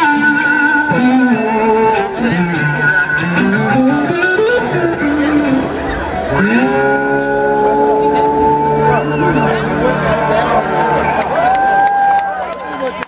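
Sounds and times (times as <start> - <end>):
live blues-rock band: 0.0 - 11.8
sliding electric guitar: 0.0 - 13.0.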